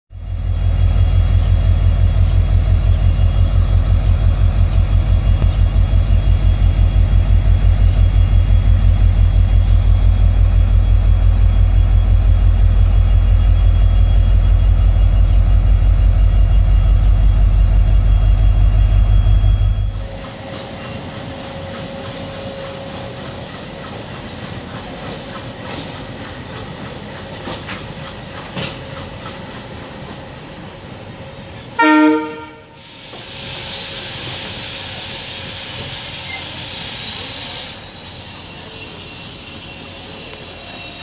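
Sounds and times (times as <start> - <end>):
diesel locomotive engine chugging: 0.1 - 41.0
train sound: 0.1 - 41.0.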